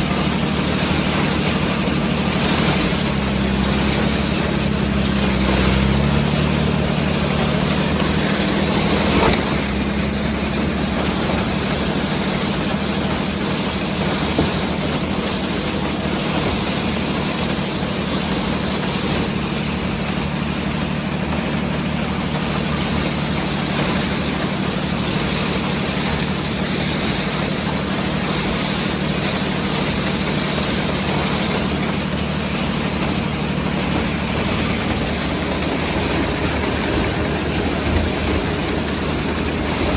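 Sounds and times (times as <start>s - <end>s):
combine harvester working: 0.0s - 39.9s
tractor engine running: 0.0s - 39.9s.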